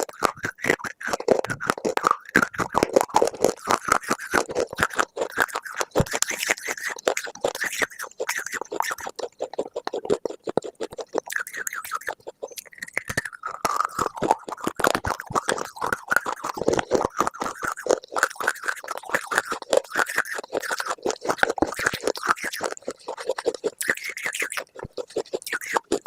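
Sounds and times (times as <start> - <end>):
crunchy chewing: 0.0 - 26.0.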